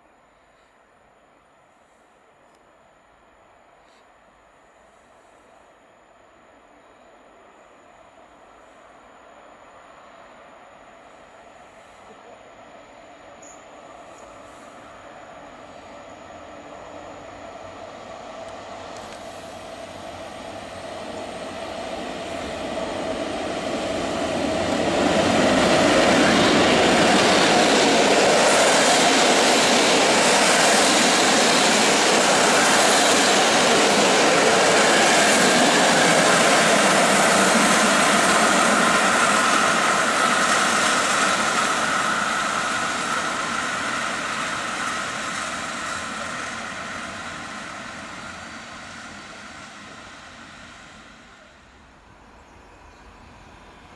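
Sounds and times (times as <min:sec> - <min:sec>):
passenger train passing at speed: 0:00.0 - 0:53.9.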